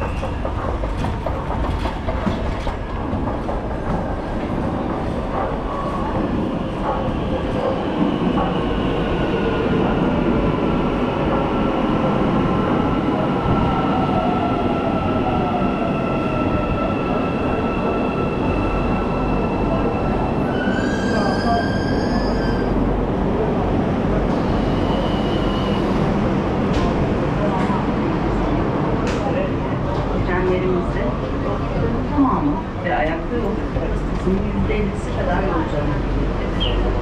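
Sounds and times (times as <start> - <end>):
metro train rumbling: 0.0 - 37.0.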